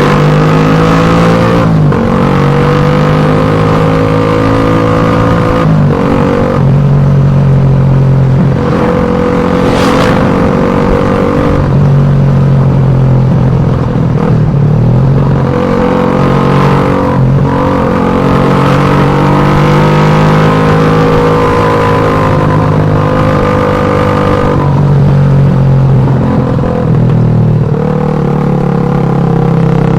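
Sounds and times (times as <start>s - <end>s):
motorcycle engine running loud: 0.0s - 29.9s.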